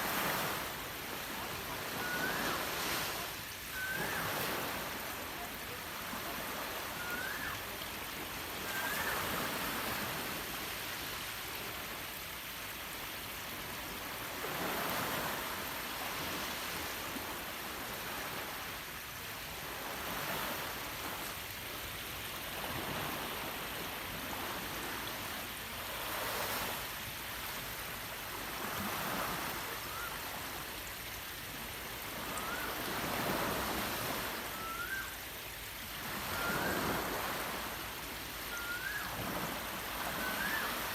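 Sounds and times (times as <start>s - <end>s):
waves washing onto shore: 0.0s - 40.9s.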